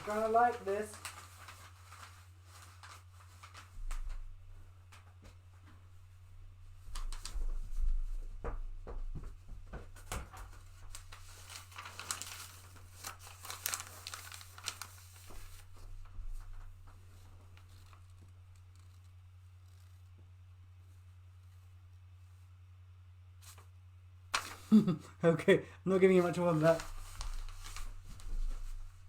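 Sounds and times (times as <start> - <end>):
fabric rustling and crinkling: 0.0 - 22.6, 25.9 - 29.0.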